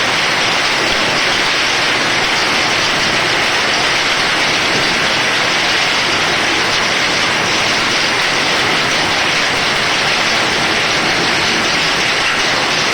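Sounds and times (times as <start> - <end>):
heavy rain and hail pelting: 0.0 - 12.9.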